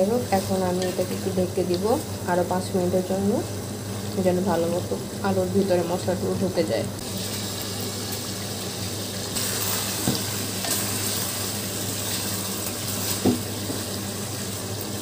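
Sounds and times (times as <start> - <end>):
food sizzling in a metal pot: 0.0 - 15.0.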